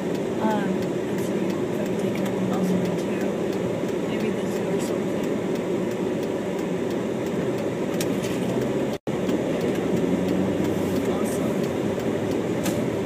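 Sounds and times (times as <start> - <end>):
car interior rumble while driving: 0.0 - 13.0.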